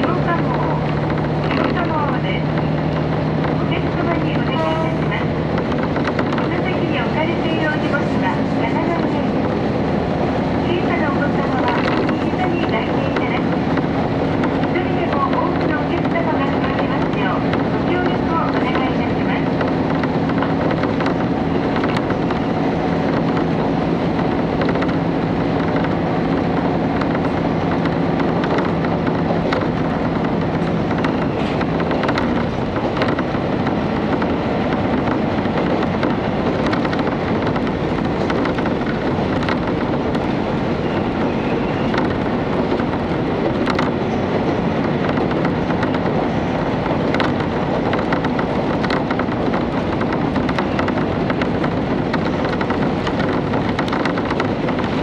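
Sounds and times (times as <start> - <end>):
diesel engine rumble: 0.0 - 55.0
train wheels on rails: 0.0 - 55.0.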